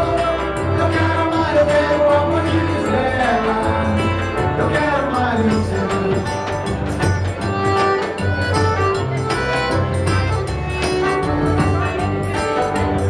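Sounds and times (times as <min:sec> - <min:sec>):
acoustic guitar: 0:00.0 - 0:13.0
drum beaten with a mallet: 0:00.0 - 0:13.0.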